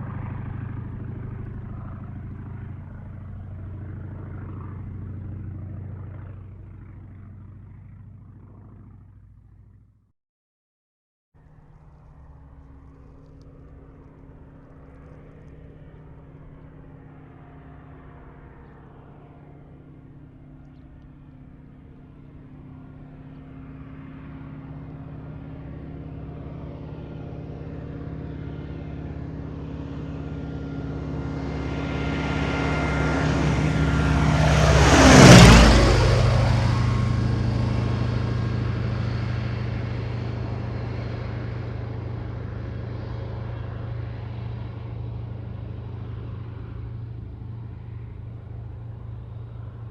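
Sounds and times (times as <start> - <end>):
propeller airplane flying past: 0.0 - 10.0, 11.4 - 49.9.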